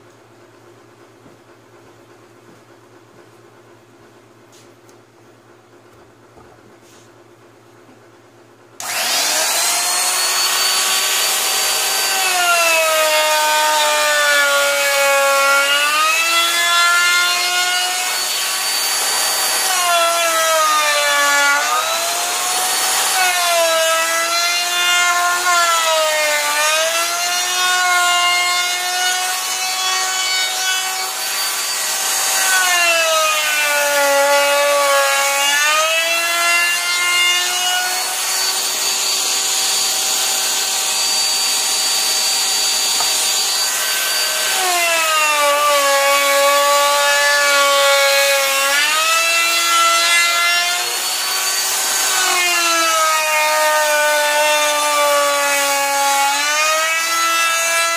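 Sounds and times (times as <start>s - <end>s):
wood router whining: 8.8s - 57.9s.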